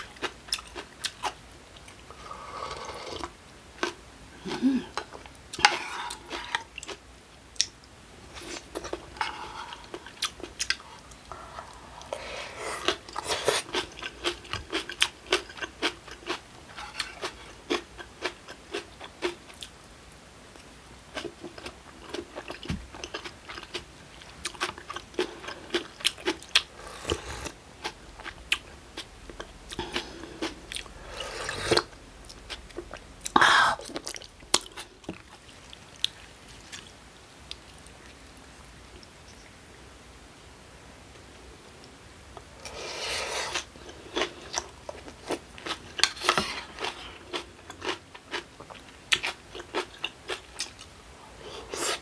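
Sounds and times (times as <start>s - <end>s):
chewing with crisp crunches: 0.0s - 2.0s, 3.2s - 7.0s, 7.6s - 19.8s, 20.5s - 39.5s, 42.6s - 52.0s.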